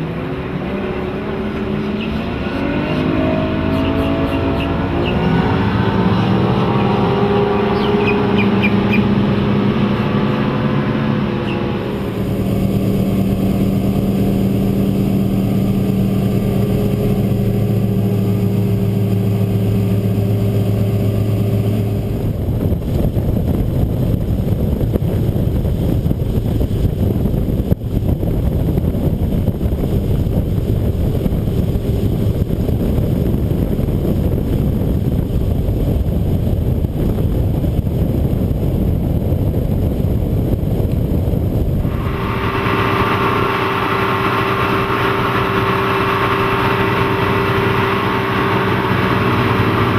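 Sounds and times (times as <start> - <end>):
outboard motors running: 0.0 - 49.9
wind and water rushing: 0.0 - 49.9.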